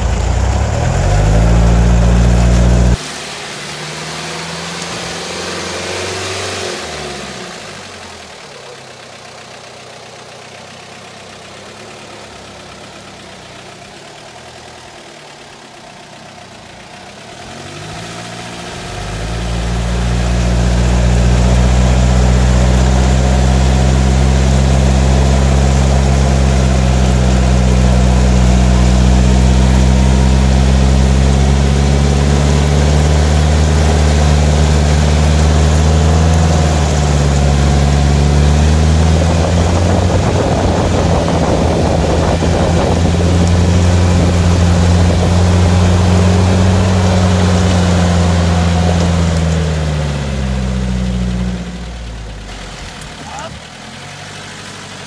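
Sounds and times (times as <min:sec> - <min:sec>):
off-road vehicle engine: 0:00.0 - 0:55.0.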